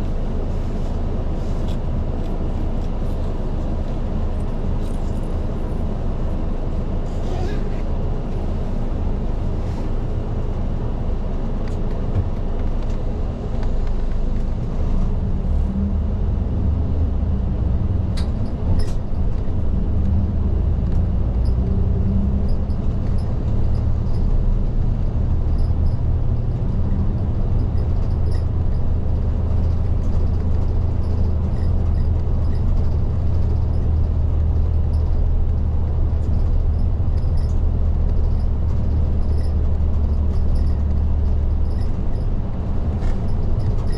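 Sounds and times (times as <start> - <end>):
bus diesel engine drone: 0.0 - 43.9
road noise: 0.0 - 43.9.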